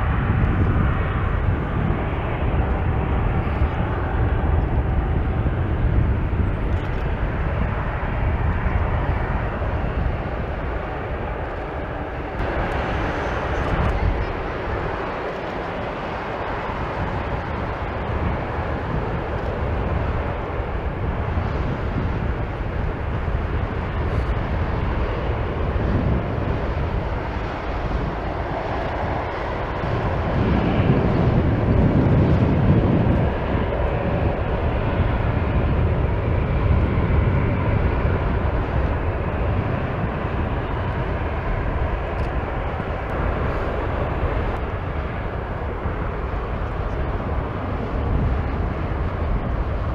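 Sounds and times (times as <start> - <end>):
jet engines taxiing: 0.0 - 49.9.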